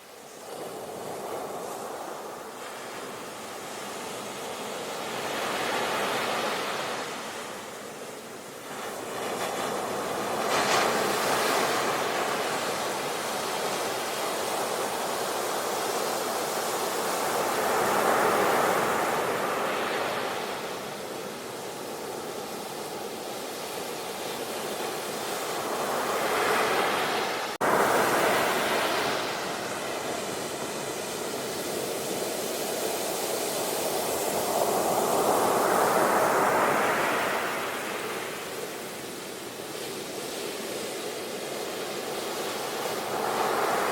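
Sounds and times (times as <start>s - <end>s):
ocean waves breaking on beach: 0.0s - 43.9s.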